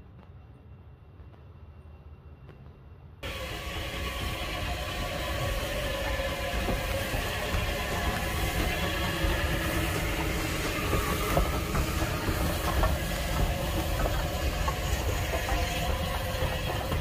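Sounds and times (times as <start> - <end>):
steady low rumble: 0.0 - 17.0
steam locomotive hissing steam: 3.2 - 17.0.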